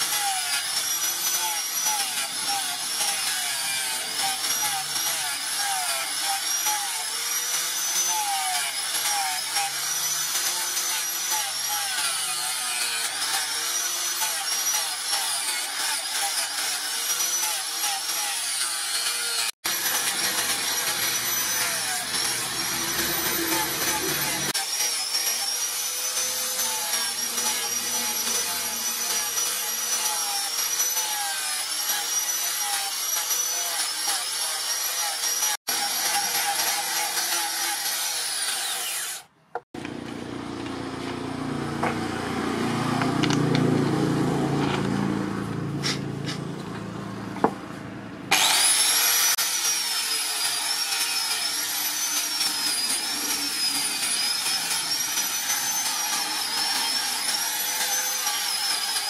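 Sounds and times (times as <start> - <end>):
angle grinder whine: 0.0 - 39.2, 39.8 - 47.6, 48.3 - 59.0.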